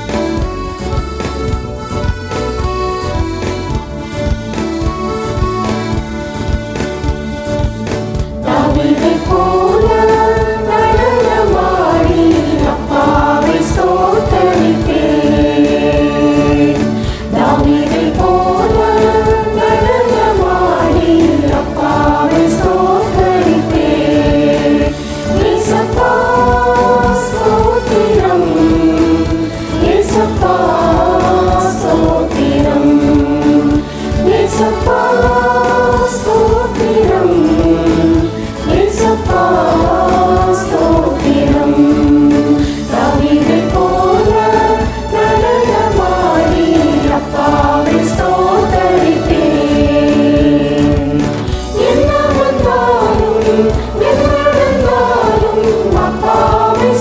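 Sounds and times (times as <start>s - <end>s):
instrumental backing track: 0.0s - 57.0s
group singing worship song: 8.1s - 57.0s.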